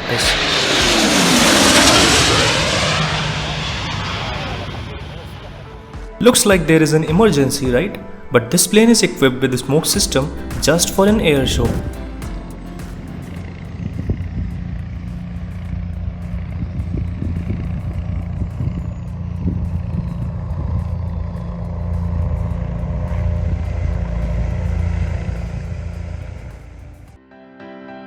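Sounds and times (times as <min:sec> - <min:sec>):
jet engines roaring past: 0:00.0 - 0:27.2.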